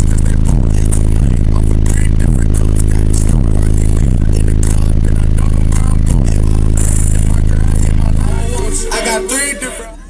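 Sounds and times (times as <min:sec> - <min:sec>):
loud bass music: 0:00.0 - 0:10.0.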